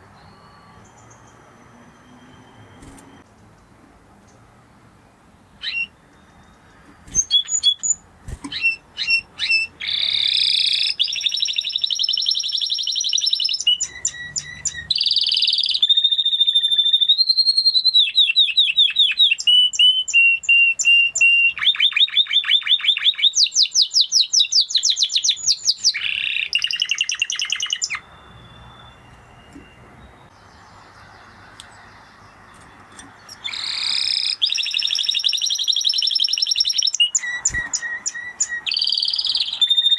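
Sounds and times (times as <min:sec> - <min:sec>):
canary singing trills: 0:00.0 - 0:03.3, 0:05.4 - 0:39.9.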